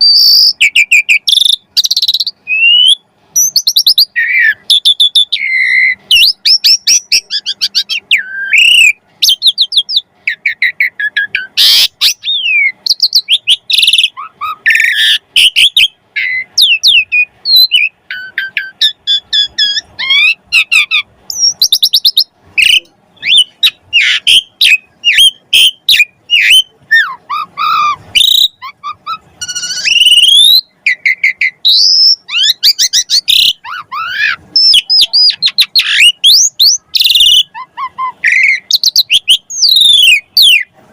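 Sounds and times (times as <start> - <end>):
starling singing: 0.0 - 40.8.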